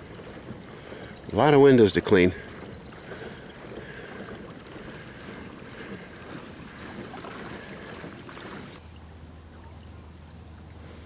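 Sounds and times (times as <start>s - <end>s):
lake water washing against boat: 0.0s - 11.0s.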